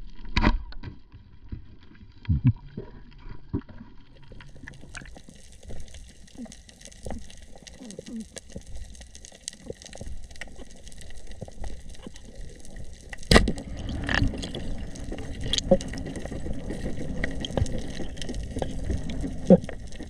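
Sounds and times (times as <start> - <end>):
water gurgling and sloshing: 0.0 - 20.0
clicks and small knocks: 3.5 - 20.0.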